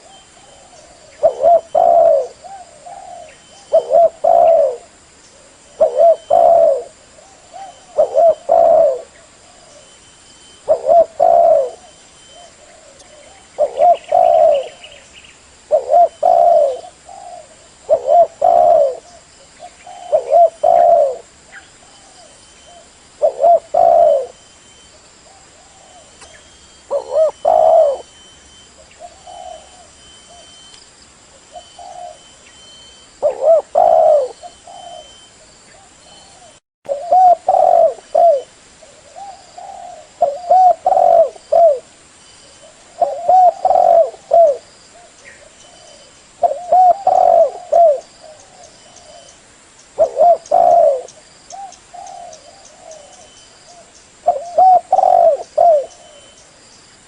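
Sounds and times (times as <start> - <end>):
dove cooing: 0.0 - 15.0, 15.7 - 24.5, 25.2 - 30.7, 31.3 - 49.4, 50.0 - 56.5.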